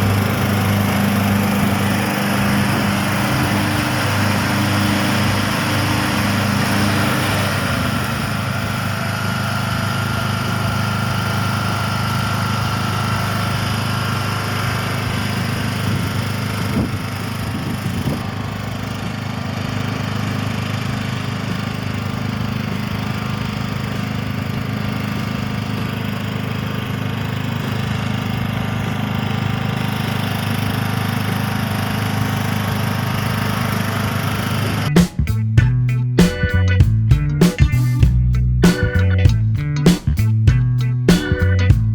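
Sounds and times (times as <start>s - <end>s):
lawn mower engine running: 0.0s - 41.9s.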